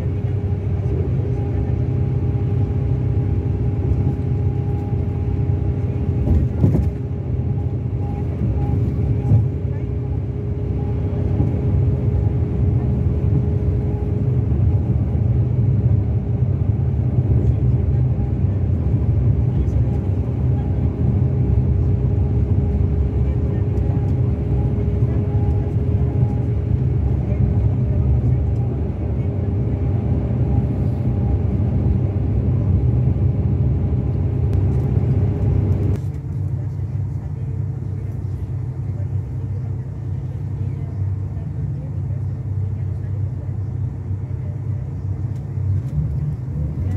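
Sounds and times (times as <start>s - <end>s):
diesel engine rumbling: 0.0s - 46.9s.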